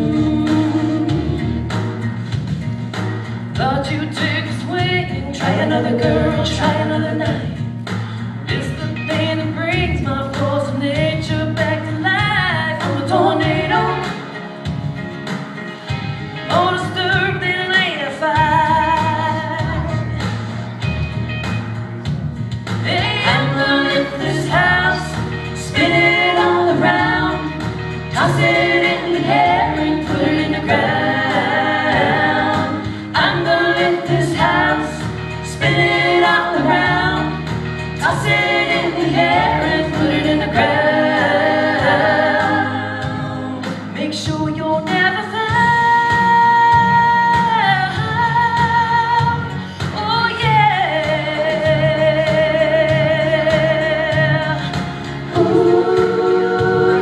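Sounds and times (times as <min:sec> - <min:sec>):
women singing country-pop harmony: 0:00.0 - 0:20.5, 0:22.6 - 0:57.0.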